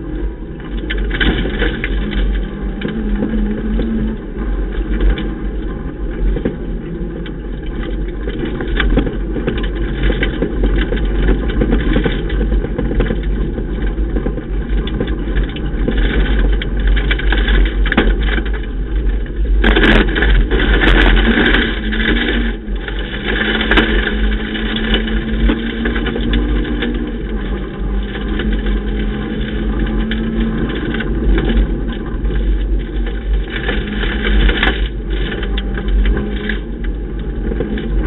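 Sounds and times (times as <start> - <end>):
car engine under load: 0.0 - 38.0
gravel striking car: 0.0 - 38.0
tyre and road noise: 0.0 - 38.0.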